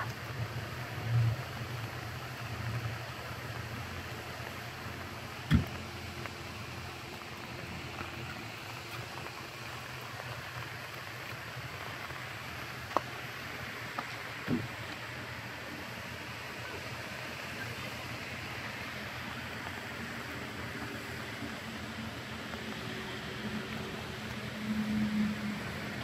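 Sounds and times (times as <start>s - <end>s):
car driving road noise: 0.0s - 26.0s.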